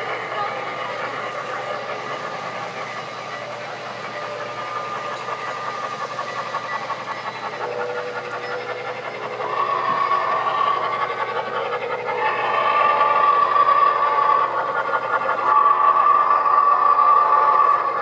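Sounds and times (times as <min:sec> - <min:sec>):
model train wheels rumbling on track: 0:00.0 - 0:18.0.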